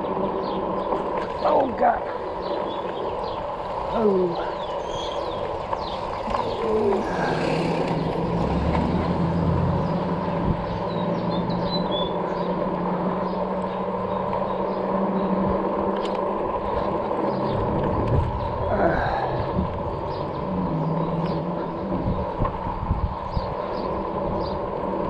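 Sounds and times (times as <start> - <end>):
bike tires rolling: 0.0 - 25.0
birds chirping: 0.0 - 25.0
low steady hum: 0.0 - 25.0
wind: 0.0 - 25.0.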